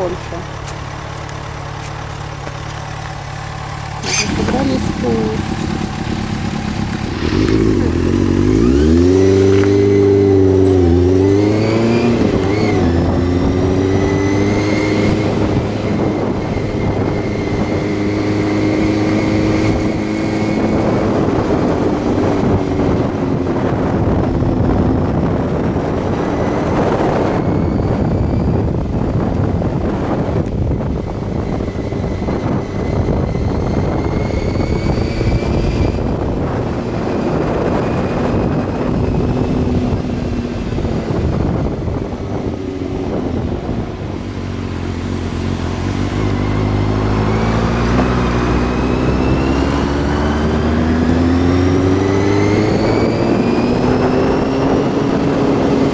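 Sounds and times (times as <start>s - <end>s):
motorcycle engine revving: 0.0s - 55.9s
rushing wind: 0.0s - 55.9s.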